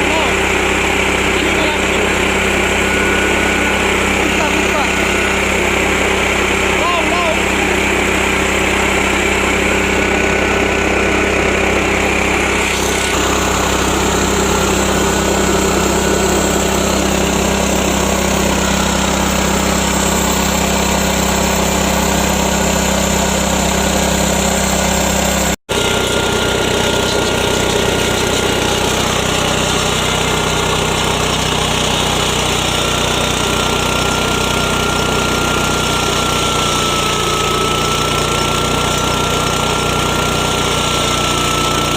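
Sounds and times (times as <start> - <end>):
petrol engine running mill: 0.0 - 41.9.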